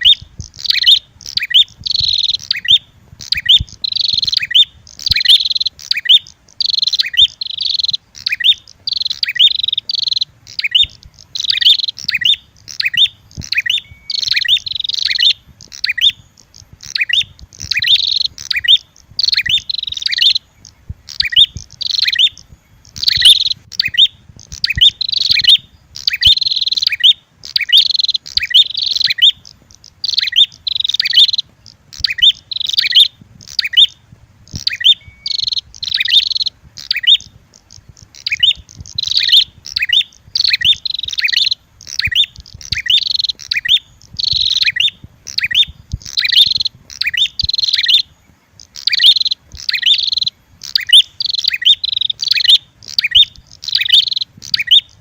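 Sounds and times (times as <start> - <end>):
agitated bird calls: 0.0 - 55.0
sharp high bird chirps: 0.0 - 55.0.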